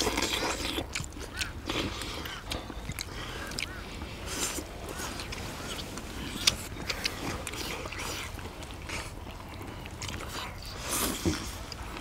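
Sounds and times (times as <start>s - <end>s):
people chewing: 0.0s - 12.0s.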